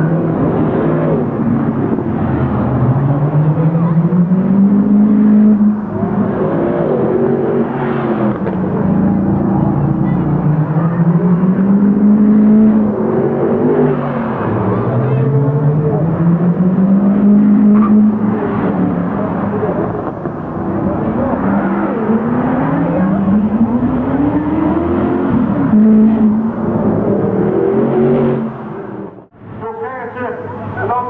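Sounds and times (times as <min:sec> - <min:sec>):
car engine accelerating: 0:00.0 - 0:29.6.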